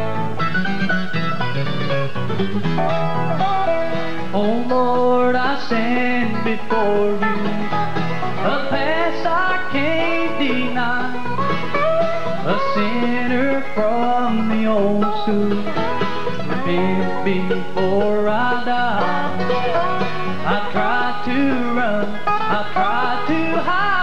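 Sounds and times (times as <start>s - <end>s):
bluegrass band playing: 0.0s - 24.0s.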